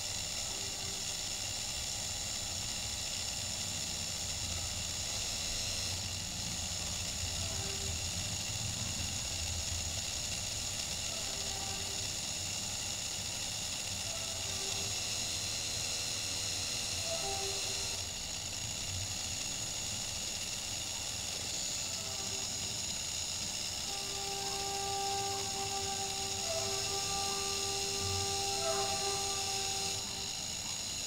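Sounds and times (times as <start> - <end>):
motor fan whine and hiss: 0.0 - 31.0.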